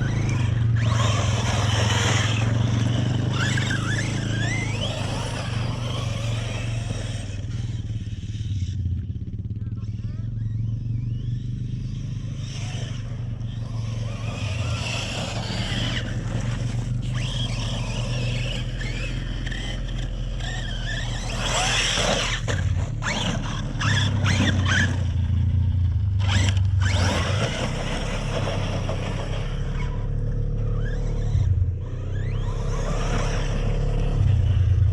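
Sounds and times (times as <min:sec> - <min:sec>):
tyres scraping on dirt: 0:00.0 - 0:08.6, 0:12.4 - 0:34.9
electric rc car motor whining: 0:00.0 - 0:09.2, 0:10.0 - 0:25.6, 0:26.2 - 0:34.9.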